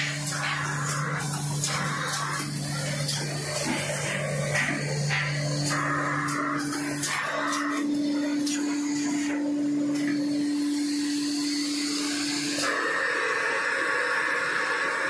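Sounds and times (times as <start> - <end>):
hissy machine noise: 0.0 - 15.0
machine hum and whir: 0.0 - 15.0.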